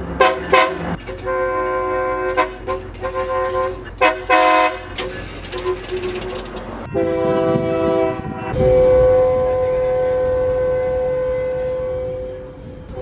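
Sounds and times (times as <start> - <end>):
locomotive air horn blasts: 0.0 - 13.0
long steady horn blast: 0.0 - 13.0.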